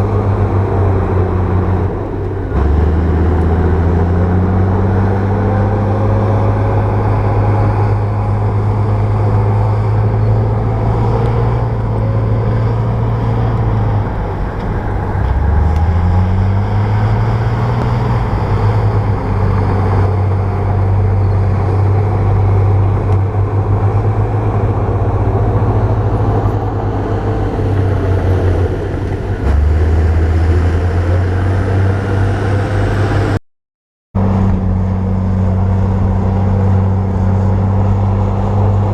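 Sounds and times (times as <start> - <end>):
bulldozer diesel engine running: 0.0 - 33.4, 34.2 - 38.9.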